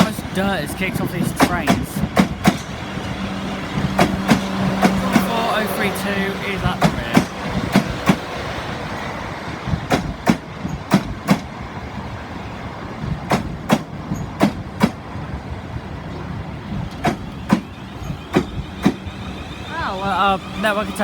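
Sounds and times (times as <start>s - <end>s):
train rumble: 0.0s - 21.0s
train wheels clicking over rail joints: 0.0s - 21.0s.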